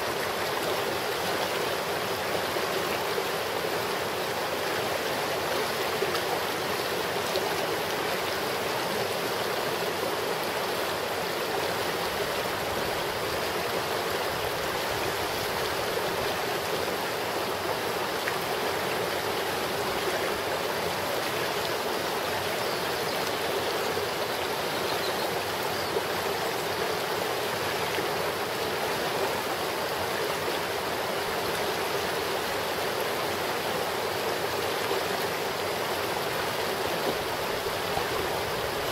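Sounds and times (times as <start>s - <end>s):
creek water flowing over rocks: 0.0s - 38.9s.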